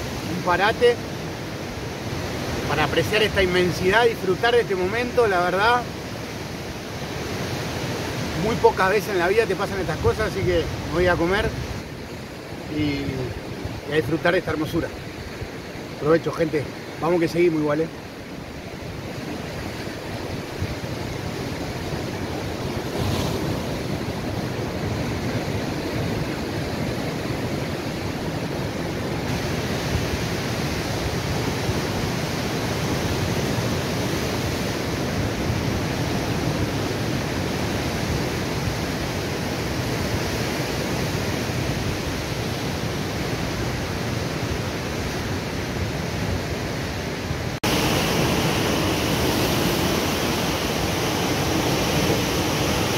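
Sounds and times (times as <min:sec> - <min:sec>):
surf breaking over rocks: 0:00.0 - 0:12.0, 0:19.2 - 0:52.9.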